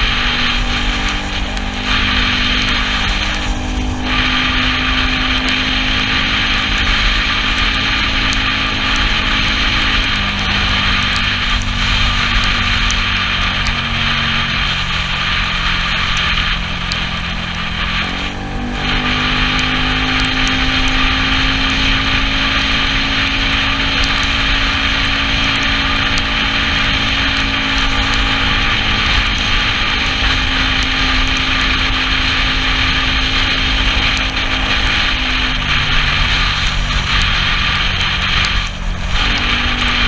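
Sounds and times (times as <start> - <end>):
scooter engine running: 0.0 - 40.0
wet road noise: 0.0 - 40.0
wind rush: 0.0 - 40.0.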